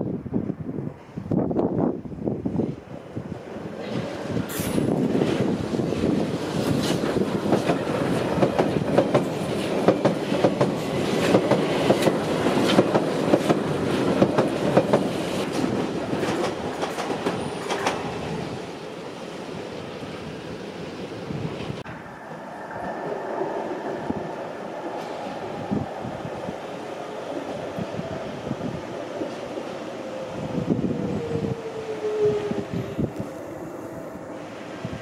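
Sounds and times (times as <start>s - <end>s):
underground train passing: 0.0s - 35.0s.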